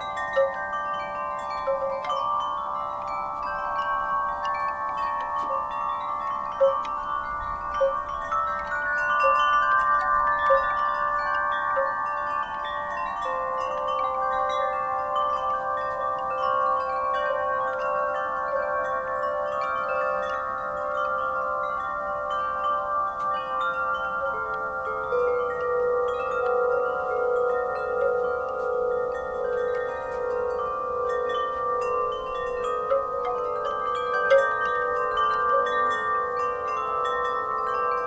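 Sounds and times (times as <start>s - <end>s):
wind chimes ringing: 0.0s - 38.0s.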